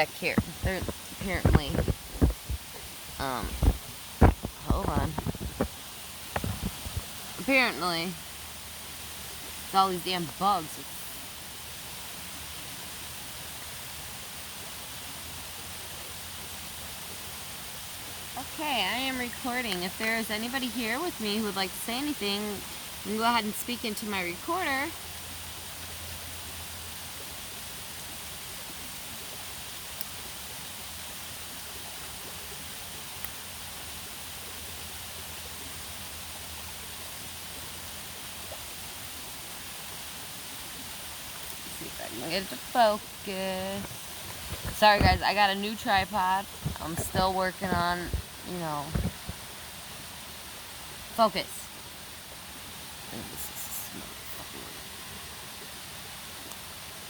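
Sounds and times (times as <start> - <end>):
water running over small waterfall: 0.0 - 57.0.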